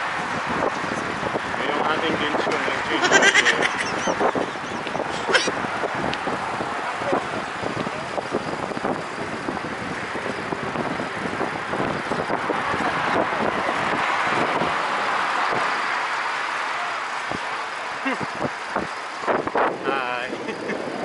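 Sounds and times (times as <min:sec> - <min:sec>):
bicycle tyre noise on road: 0:00.0 - 0:21.0
bike and camera rattling: 0:00.0 - 0:21.0
rushing wind: 0:00.0 - 0:21.0.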